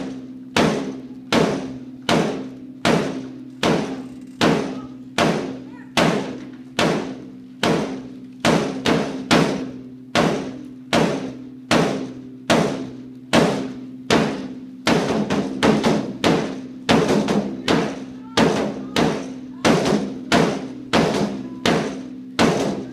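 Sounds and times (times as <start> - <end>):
drum beating steadily: 0.0 - 22.9.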